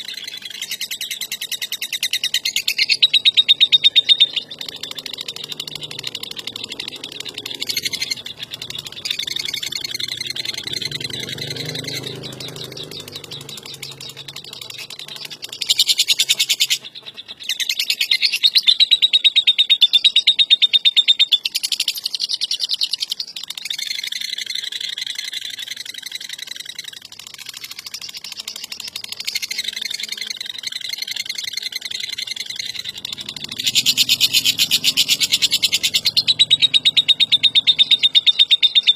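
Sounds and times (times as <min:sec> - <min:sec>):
lovebird shrill chattering trill: 0:00.0 - 0:38.9.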